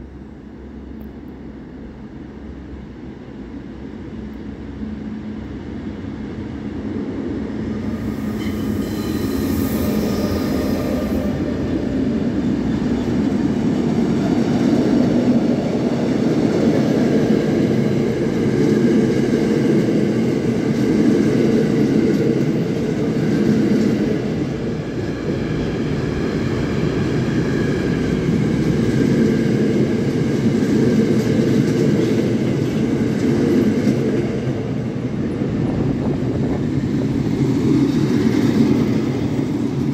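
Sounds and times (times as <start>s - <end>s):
electric locomotive whine: 0.0s - 39.9s.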